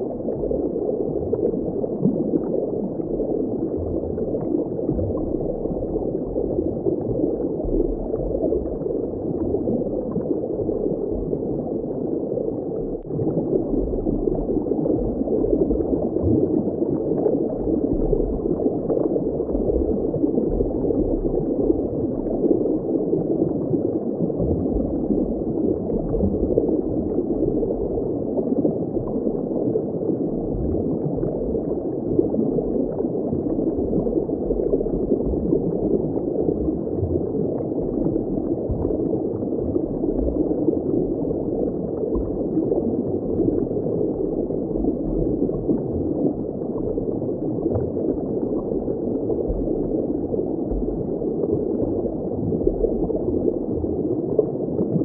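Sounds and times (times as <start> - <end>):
low underwater rumbles: 0.0 - 55.0
underwater bubbling water: 0.0 - 55.0.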